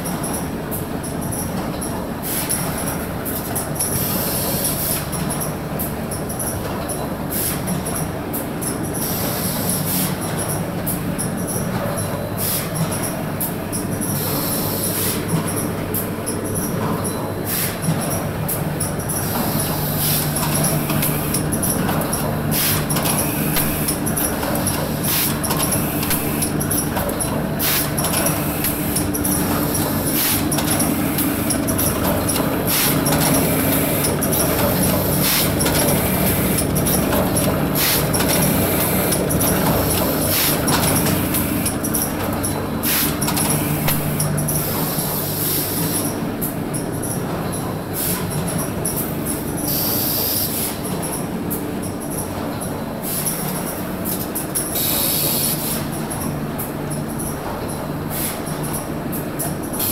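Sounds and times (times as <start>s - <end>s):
packing machine humming: 7.6s - 58.0s.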